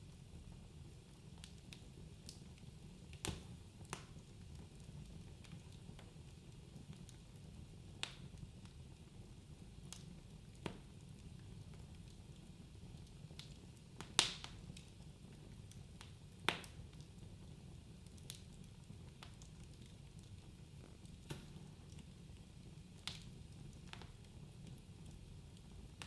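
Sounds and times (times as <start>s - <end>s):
wood fire crackling and popping: 0.1s - 26.0s.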